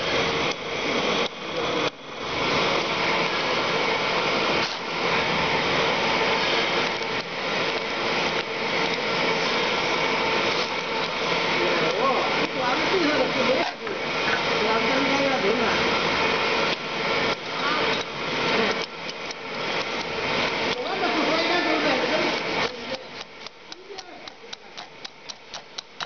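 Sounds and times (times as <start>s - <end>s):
running machinery: 0.0s - 26.0s.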